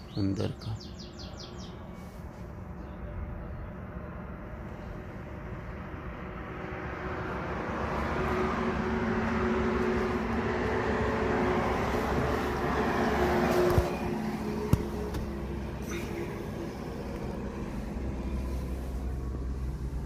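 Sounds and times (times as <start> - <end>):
motor vehicle engine drone: 1.1 - 20.0.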